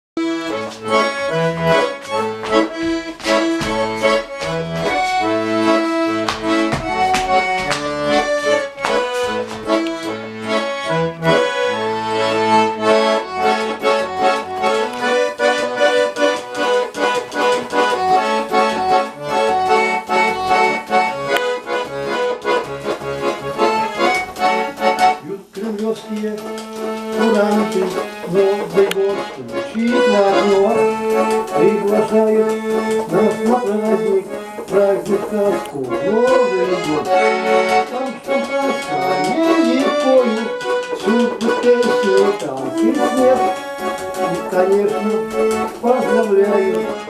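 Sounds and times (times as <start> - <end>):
accordion melody: 0.2 - 47.0.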